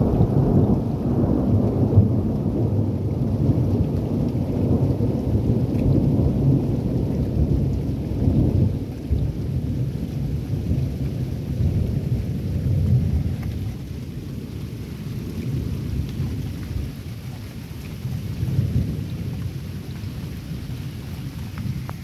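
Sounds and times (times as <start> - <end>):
rain in a thunderstorm: 0.0 - 22.0.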